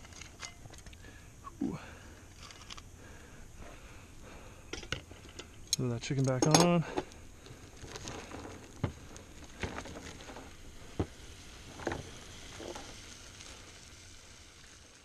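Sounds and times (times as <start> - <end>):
chicken sizzling over campfire: 0.0 - 15.0.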